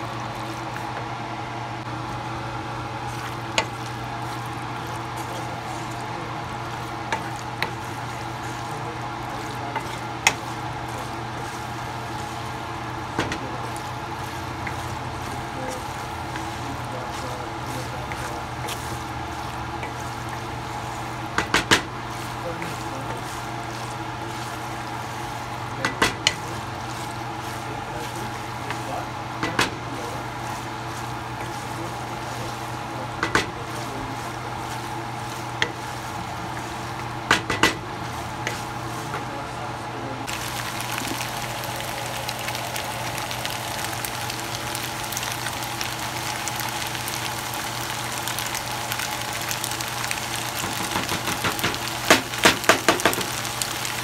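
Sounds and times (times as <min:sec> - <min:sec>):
steady low hum: 0:00.0 - 0:45.3
food sizzling in a frying pan: 0:00.0 - 0:54.0.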